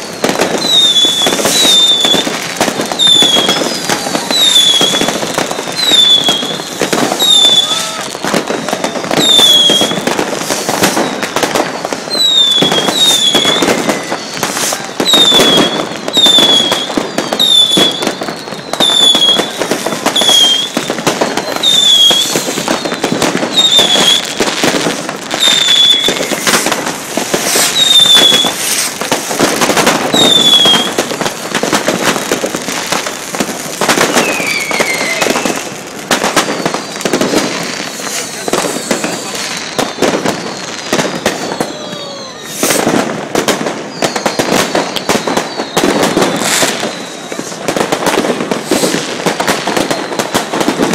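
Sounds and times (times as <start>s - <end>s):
falling firework whistles: 0.0s - 50.9s
fireworks banging and crackling: 0.0s - 50.9s.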